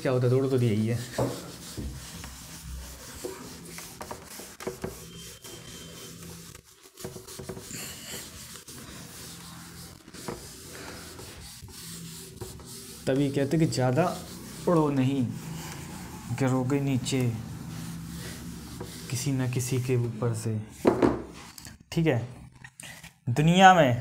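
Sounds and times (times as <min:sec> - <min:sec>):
duster rubbing on whiteboard: 0:00.0 - 0:21.5.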